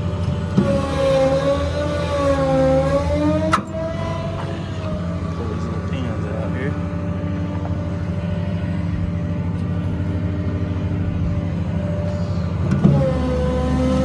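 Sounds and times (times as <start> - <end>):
diesel engine running: 0.0 - 14.0
whining hydraulic tone: 0.0 - 14.0.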